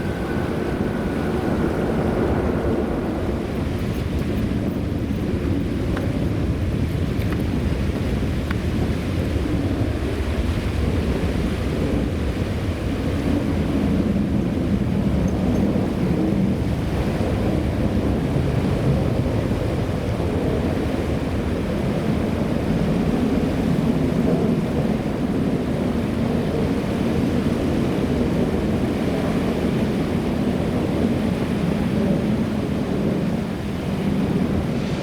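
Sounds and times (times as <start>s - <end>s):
jet engines deep rumble: 0.0s - 35.0s.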